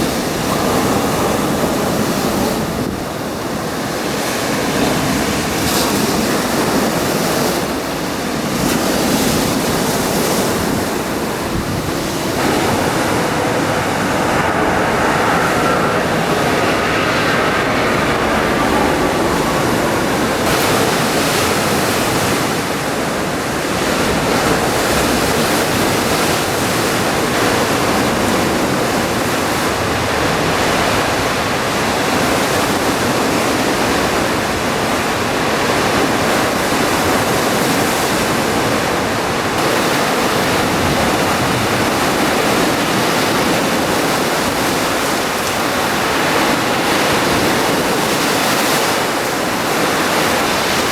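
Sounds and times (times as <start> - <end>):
sea surf washing onto beach: 0.0 - 50.9.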